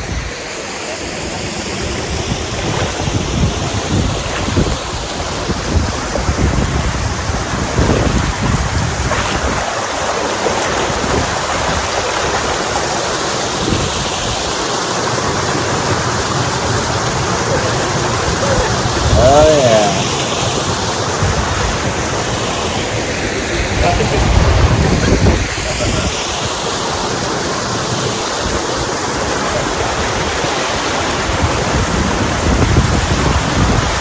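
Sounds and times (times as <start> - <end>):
water rushing: 0.0 - 34.0
wind buffeting microphone: 1.7 - 14.6, 15.2 - 19.6, 20.5 - 26.6, 28.4 - 34.0.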